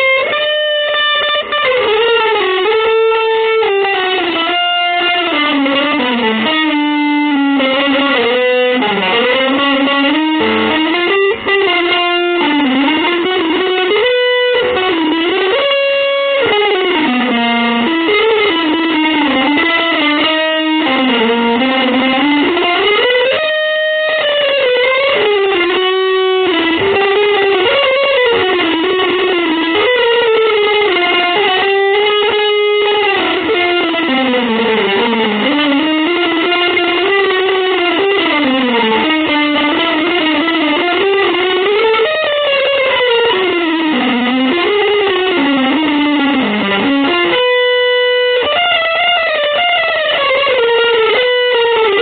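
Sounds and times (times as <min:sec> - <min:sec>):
electric guitar melody: 0:00.0 - 0:52.0.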